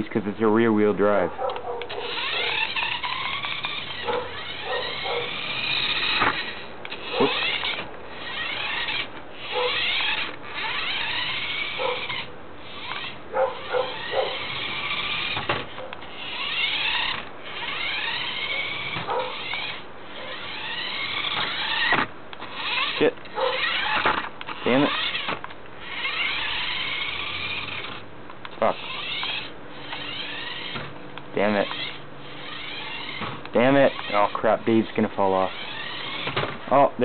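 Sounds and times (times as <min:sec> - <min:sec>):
toy car motor whining: 0:00.0 - 0:37.0.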